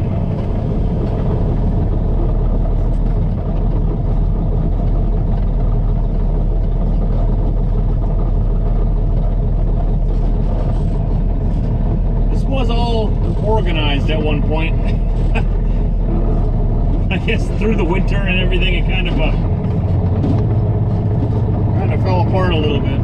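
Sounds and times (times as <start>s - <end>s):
road noise: 0.0s - 23.0s
truck diesel engine running: 0.0s - 23.0s.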